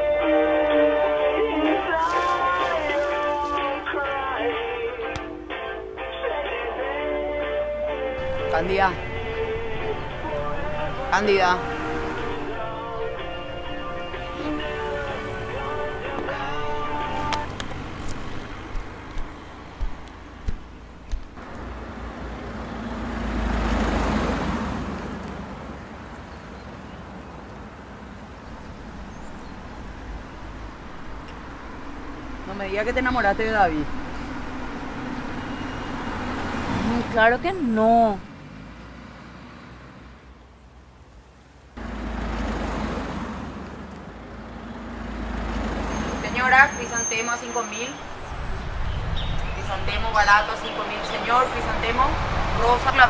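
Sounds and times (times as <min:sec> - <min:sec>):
road vehicle passing by: 0:00.0 - 0:05.5, 0:06.4 - 0:53.0
street traffic rumble: 0:00.0 - 0:53.0.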